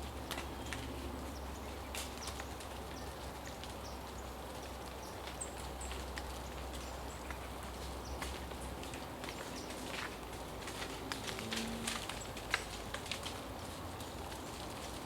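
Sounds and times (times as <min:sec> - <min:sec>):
light ticks and drips: 0:00.0 - 0:15.0.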